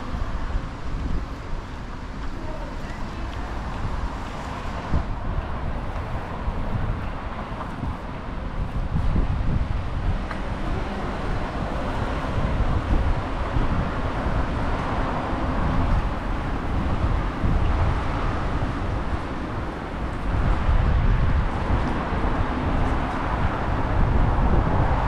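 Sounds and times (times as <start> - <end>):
outdoor city noise: 0.0 - 25.0
wind buffeting microphone: 0.0 - 25.0.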